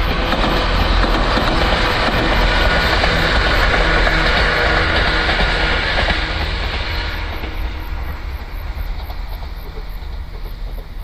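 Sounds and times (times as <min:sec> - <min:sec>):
electric train wheel rumble: 0:00.0 - 0:11.0.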